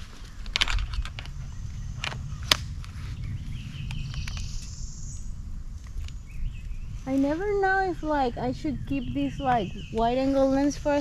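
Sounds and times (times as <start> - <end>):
bird chirping: 0.0 - 11.0
low steady rumble: 0.0 - 11.0.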